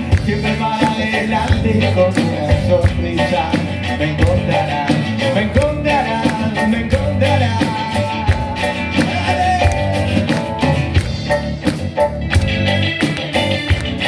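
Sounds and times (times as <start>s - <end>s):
drum kit: 0.0s - 14.0s
electric guitar: 0.0s - 14.0s
keyboard: 0.0s - 14.0s.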